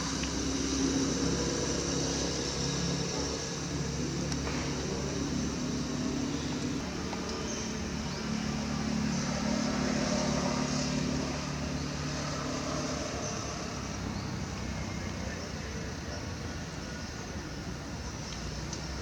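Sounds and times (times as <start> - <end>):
outdoor background noise: 0.0 - 19.0
vehicle engine humming: 0.0 - 19.0.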